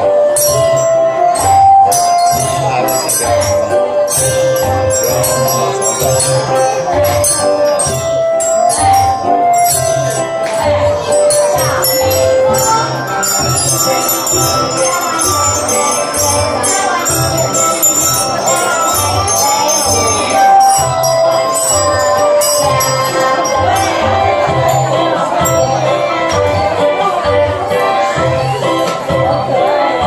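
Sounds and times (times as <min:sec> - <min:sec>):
jingling bells: 0:00.0 - 0:28.9
children's song music: 0:00.0 - 0:30.0.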